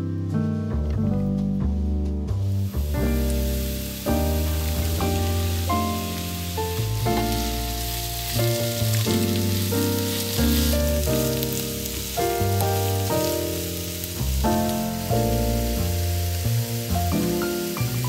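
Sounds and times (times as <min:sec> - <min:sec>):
background music sustained notes: 0:00.0 - 0:18.0
vegetables sizzling in a frying pan: 0:02.4 - 0:18.0.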